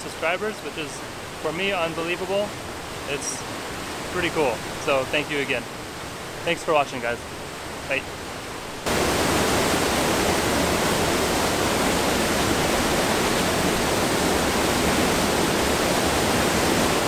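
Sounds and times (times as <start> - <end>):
waterfall pouring over rocks: 0.0 - 17.0.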